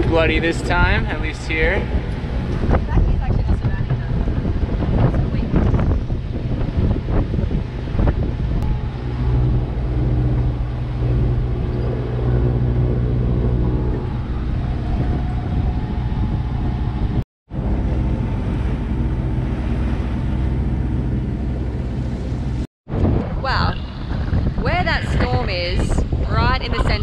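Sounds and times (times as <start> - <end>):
water washing: 0.0 - 22.7
boat engine droning: 0.0 - 27.0
wind: 0.0 - 27.0.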